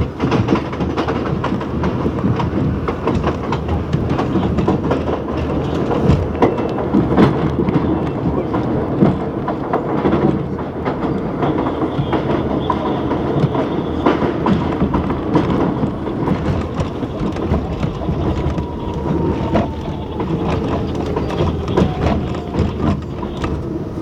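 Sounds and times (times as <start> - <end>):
subway train rumbling: 0.0 - 24.0
wheels clattering over rail joints: 0.0 - 24.0.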